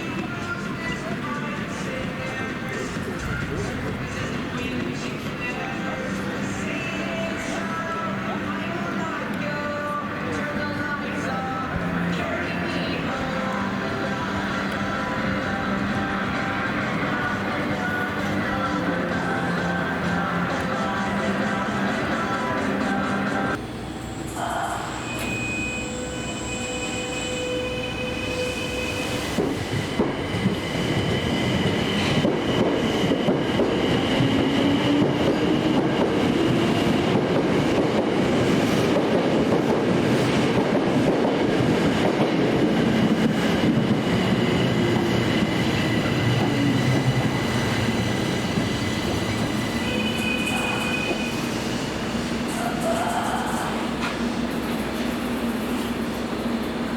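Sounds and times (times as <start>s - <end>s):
subway train rumble: 0.0s - 56.9s.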